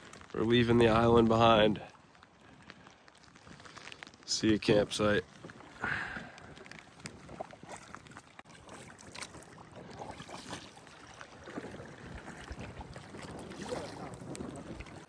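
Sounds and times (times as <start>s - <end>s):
paddle strokes splashing water: 0.0s - 15.0s
water: 0.0s - 15.0s
wind: 0.0s - 15.0s.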